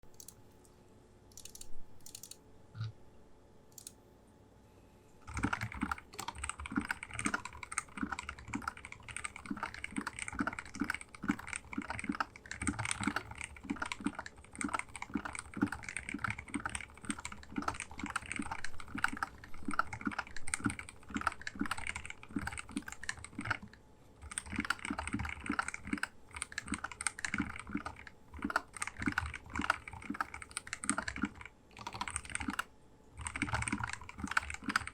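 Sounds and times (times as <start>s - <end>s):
typing on mechanical keyboard: 1.4s - 2.4s, 5.2s - 34.9s.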